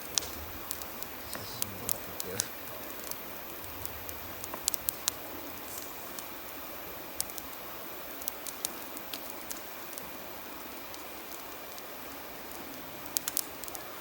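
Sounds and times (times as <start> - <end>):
campfire crackling: 0.0 - 14.0
river flowing: 0.0 - 14.0.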